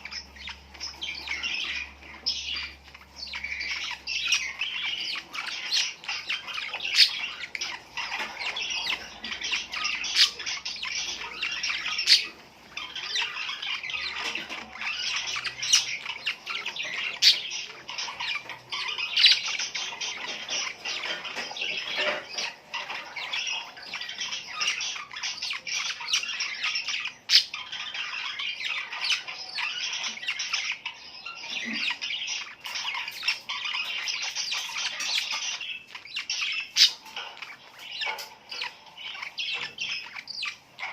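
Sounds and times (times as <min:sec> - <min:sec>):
small birds chattering and squawking: 0:00.0 - 0:40.9.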